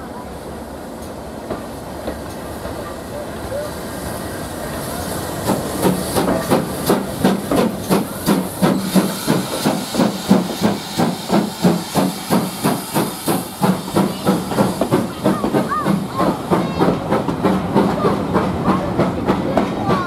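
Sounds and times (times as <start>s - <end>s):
steam hissing: 0.0s - 20.0s
steam locomotive exhaust chuffs: 0.5s - 20.0s.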